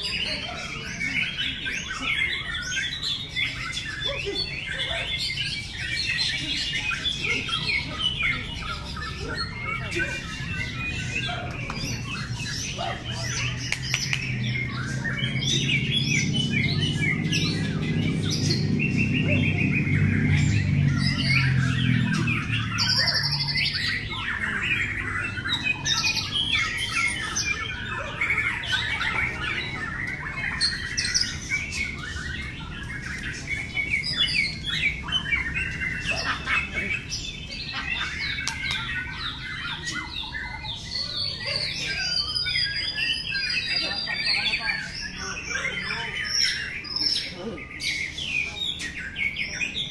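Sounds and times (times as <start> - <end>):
chorus of songbirds: 0.0 - 49.9.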